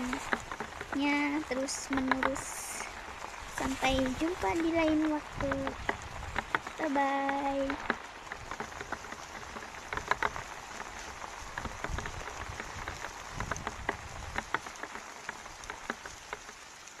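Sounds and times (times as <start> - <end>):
low rumbles: 0.0 - 16.6
heavy rain: 0.0 - 17.0
water drips tapping: 0.0 - 17.0.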